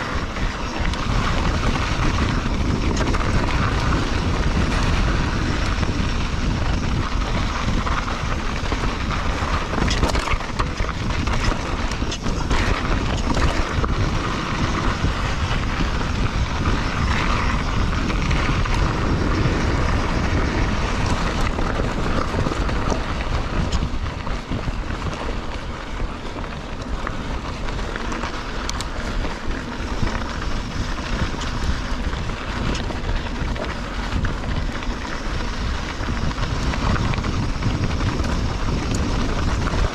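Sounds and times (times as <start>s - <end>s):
bike clicks and rattles: 0.0s - 39.9s
tyres rolling on dirt trail: 0.0s - 39.9s
wind buffeting microphone: 0.0s - 39.9s.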